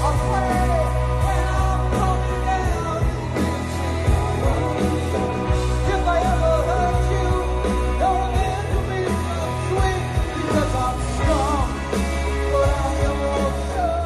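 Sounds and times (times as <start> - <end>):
heavy bass line: 0.0 - 14.0
man singing: 0.0 - 14.0
pop-rock band playing: 0.0 - 14.0.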